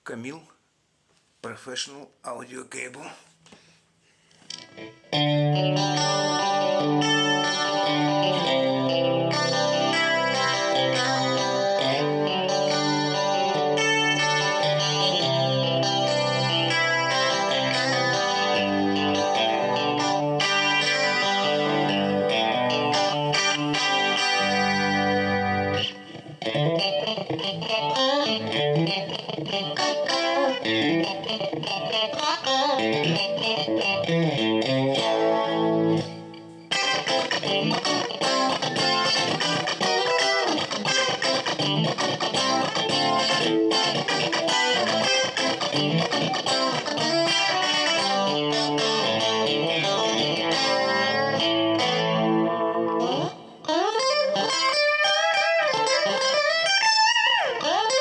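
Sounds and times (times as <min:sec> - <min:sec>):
clean electric guitar playing: 0:04.5 - 0:58.0.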